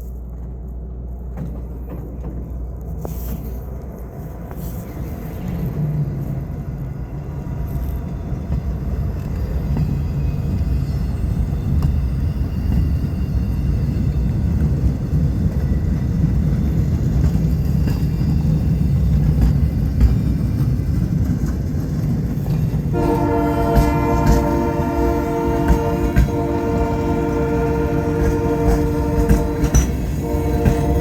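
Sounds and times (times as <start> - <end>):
diesel train rumble: 0.0 - 31.0.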